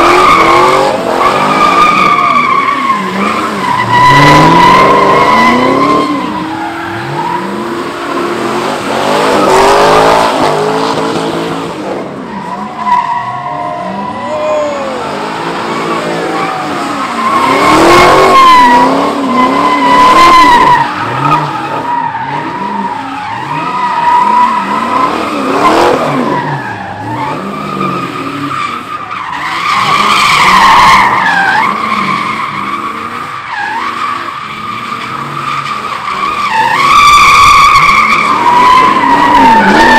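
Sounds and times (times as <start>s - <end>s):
car engine revving: 0.0s - 39.9s
car tyres screeching: 0.0s - 39.9s.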